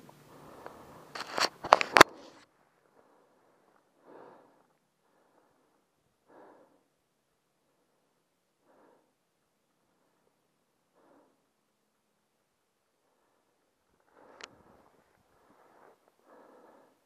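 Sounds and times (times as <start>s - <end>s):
faint breaths: 0.0s - 17.0s.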